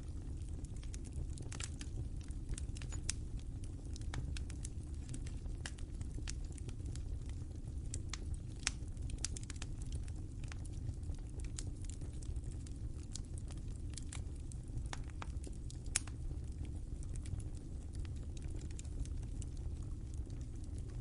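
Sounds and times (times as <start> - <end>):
fire crackling and popping: 0.0 - 21.0
low steady rumble: 0.0 - 21.0.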